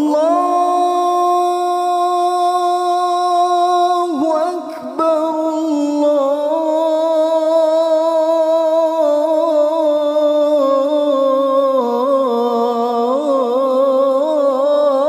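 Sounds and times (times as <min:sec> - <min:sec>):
man chanting call to prayer: 0:00.0 - 0:15.0.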